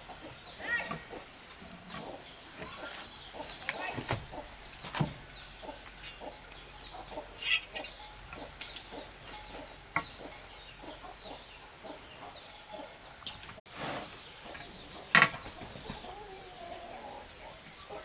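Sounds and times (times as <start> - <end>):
chickens clucking: 0.0 - 18.0
small birds chirping: 0.0 - 18.0.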